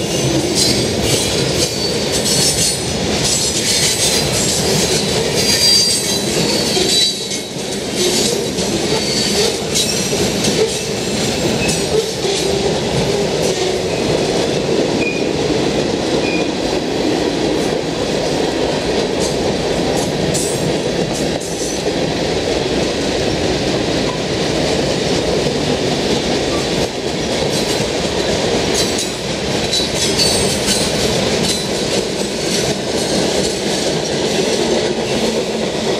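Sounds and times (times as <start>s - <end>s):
steel wheels rumbling on rails: 0.0s - 35.9s.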